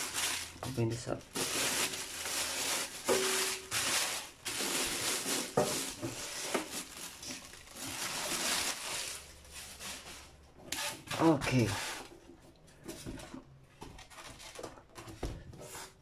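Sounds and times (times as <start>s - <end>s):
plastic wrapping rustling: 0.0s - 12.1s, 12.9s - 16.0s.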